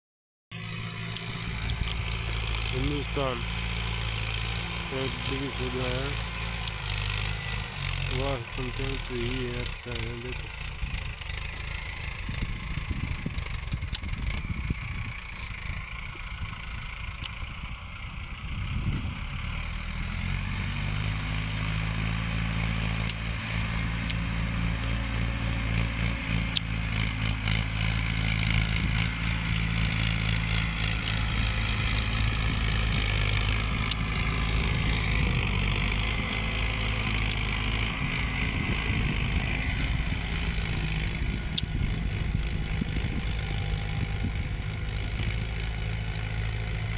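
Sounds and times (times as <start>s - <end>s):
tractor diesel engine running: 0.5s - 46.9s.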